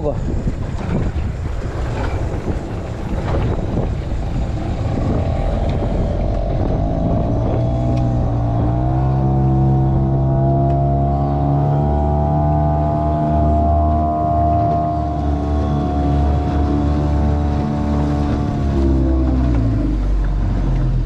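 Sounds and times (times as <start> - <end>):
boat engine running: 0.0 - 21.0
water noise: 0.0 - 21.0
wind: 0.0 - 21.0.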